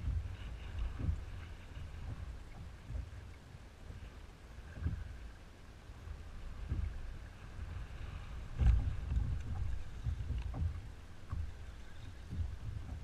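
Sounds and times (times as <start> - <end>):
water slapping kayak hull: 0.0 - 13.0
wind buffeting microphone: 0.0 - 13.0.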